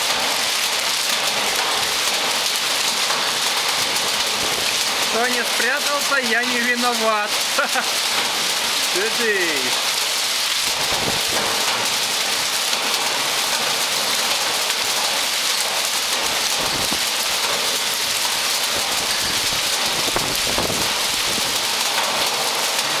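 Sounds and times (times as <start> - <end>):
heavy rain and hail on concrete: 0.0 - 23.0.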